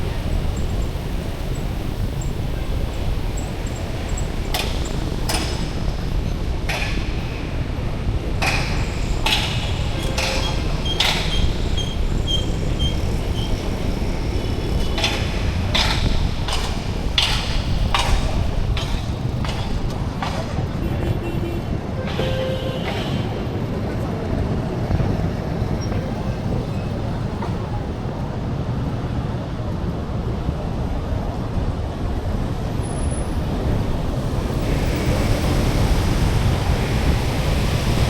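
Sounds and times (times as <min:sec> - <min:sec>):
steady low street rumble: 0:00.0 - 0:38.0.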